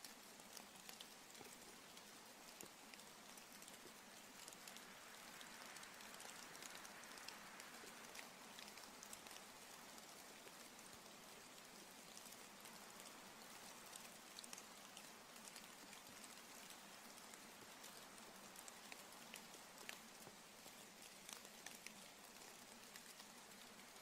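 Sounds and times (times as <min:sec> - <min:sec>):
faint steady rainfall: 0:00.0 - 0:24.0.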